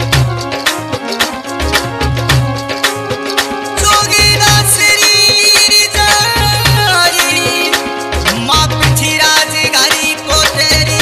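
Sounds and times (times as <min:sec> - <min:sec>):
held instrumental melody: 0:00.0 - 0:11.0
loud drum beat: 0:00.0 - 0:11.0.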